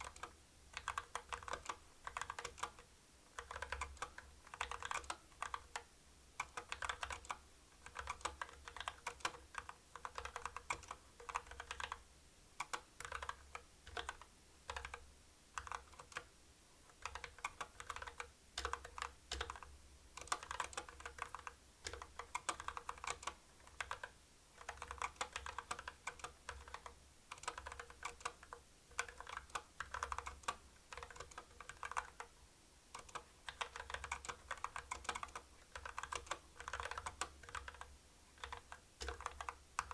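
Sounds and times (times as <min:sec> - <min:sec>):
typing on mechanical keyboard: 0:00.0 - 0:12.0, 0:12.6 - 0:16.3, 0:16.9 - 0:32.3, 0:32.9 - 0:39.9.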